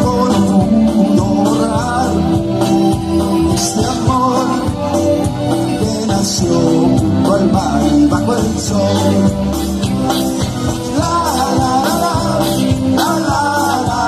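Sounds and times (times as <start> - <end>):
live band music: 0.0 - 14.0
men singing: 0.0 - 14.0.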